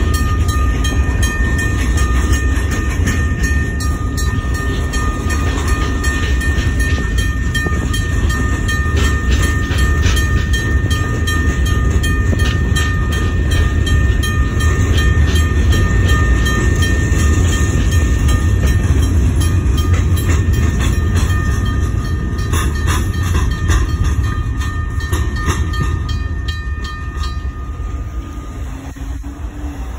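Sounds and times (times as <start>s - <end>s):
crossing bell ringing: 0.0s - 29.9s
train wheels rumbling and clattering: 0.0s - 29.9s.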